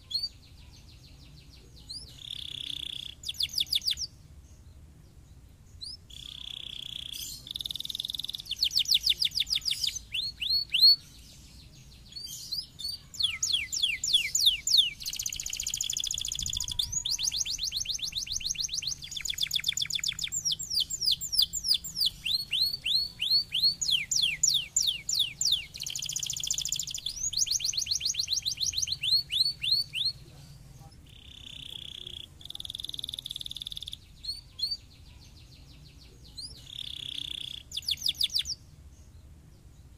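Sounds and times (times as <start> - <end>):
canary singing trills: 0.0 - 39.4.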